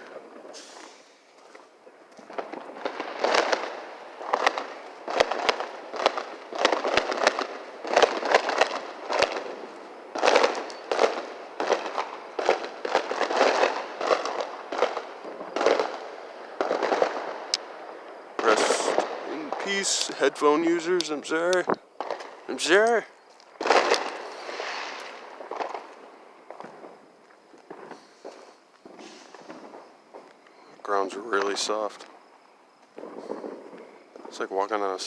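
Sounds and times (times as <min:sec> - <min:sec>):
fireworks crackling bangs: 0:00.0 - 0:35.0.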